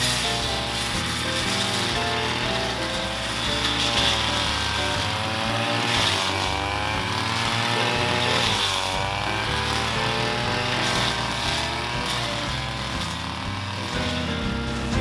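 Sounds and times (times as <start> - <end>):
background music: 0.0 - 15.0
string trimmer engine revving: 0.0 - 15.0.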